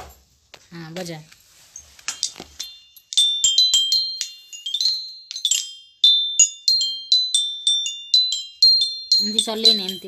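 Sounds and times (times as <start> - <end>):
small metal chimes ringing: 1.7 - 10.0.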